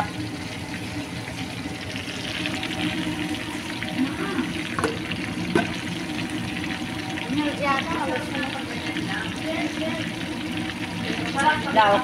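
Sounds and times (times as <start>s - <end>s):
shrimp deep-frying in oil: 0.0s - 12.0s.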